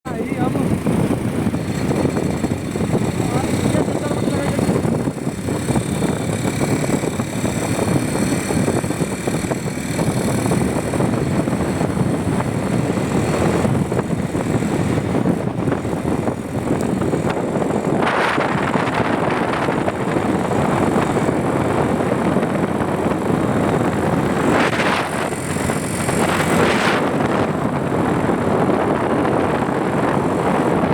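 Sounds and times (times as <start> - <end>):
road noise from moving bike: 0.0 - 30.9
wind rushing over microphone: 0.0 - 30.9.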